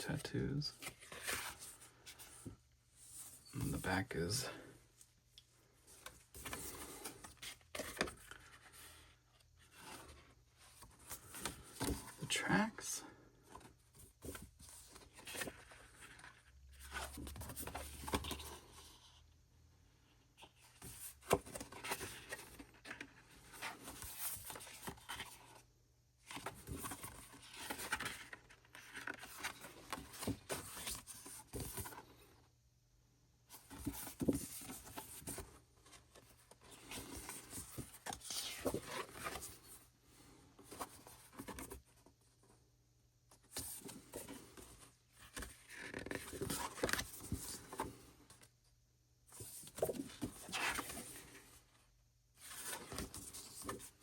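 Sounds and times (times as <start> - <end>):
paper and cardboard rustling: 0.2 - 4.6, 5.6 - 19.2, 20.4 - 25.6, 26.2 - 32.3, 33.5 - 42.1, 43.3 - 48.5, 49.3 - 51.8, 52.4 - 54.0.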